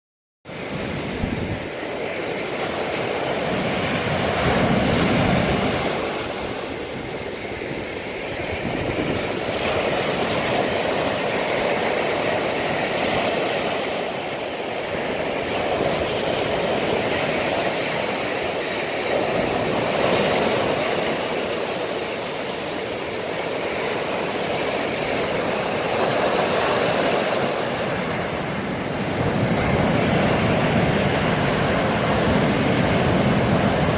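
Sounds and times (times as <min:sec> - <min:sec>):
waves crashing on shore: 0:00.5 - 0:33.9.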